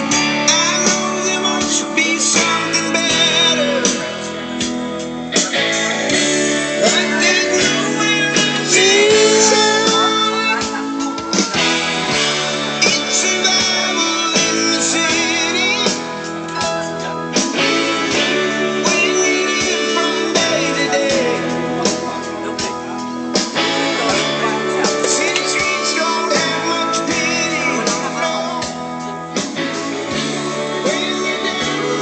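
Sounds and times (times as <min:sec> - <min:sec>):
guitar-led music: 0:00.0 - 0:32.0.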